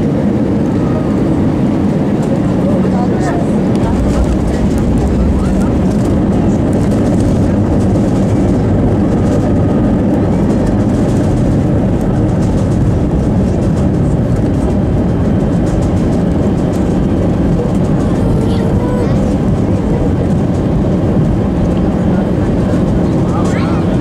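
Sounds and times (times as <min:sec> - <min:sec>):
airplane cabin rumble on runway: 0:00.0 - 0:24.0.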